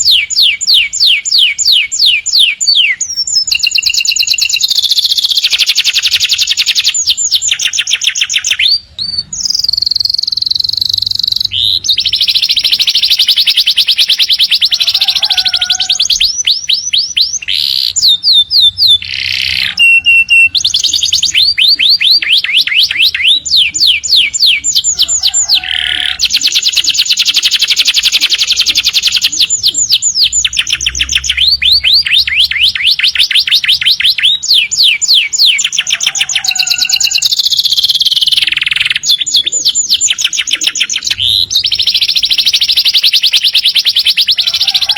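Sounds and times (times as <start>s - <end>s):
canaries singing trills: 0.0s - 44.9s.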